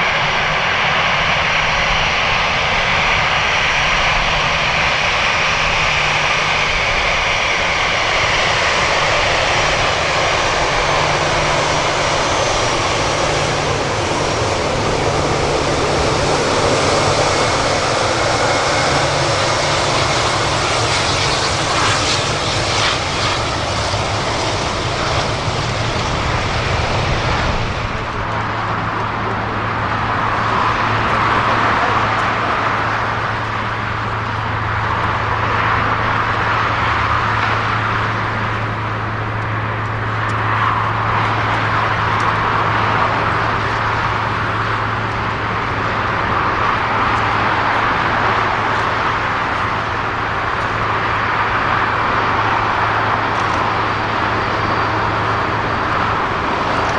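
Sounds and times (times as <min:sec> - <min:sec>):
jet airliner engines running: 0:00.0 - 0:56.9.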